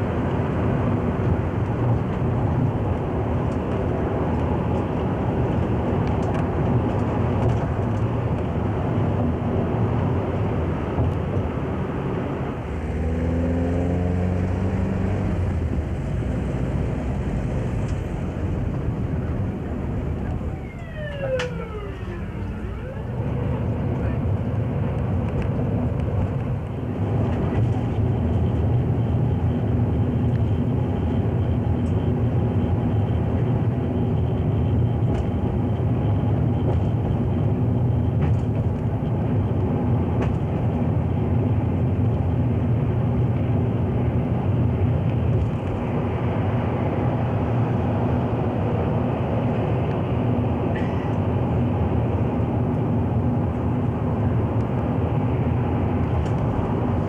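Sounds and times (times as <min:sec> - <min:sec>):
vehicle interior rumble: 0:00.0 - 0:57.0.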